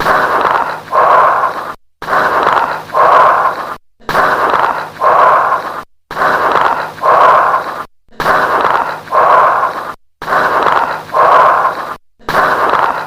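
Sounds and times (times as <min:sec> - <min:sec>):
bronchial breathing: 0:00.0 - 0:13.0.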